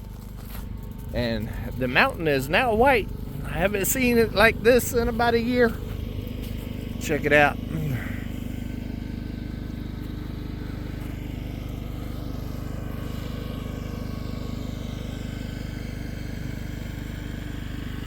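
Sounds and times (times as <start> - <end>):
engine humming steadily: 0.0 - 18.0.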